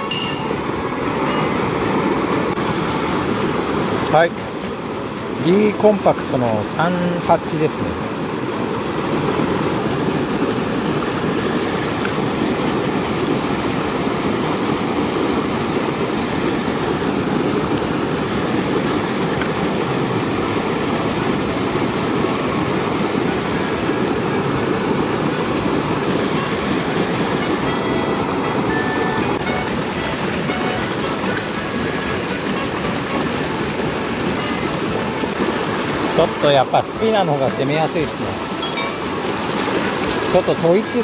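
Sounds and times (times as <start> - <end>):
water rushing over rocks: 0.0 - 41.0.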